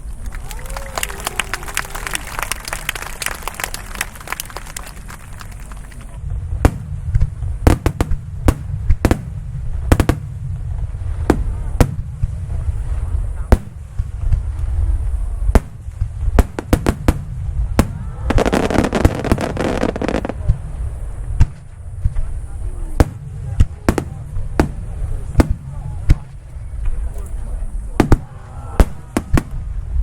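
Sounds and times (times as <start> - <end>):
fireworks bangs: 0.7 - 30.0
deep rumble: 5.2 - 30.0.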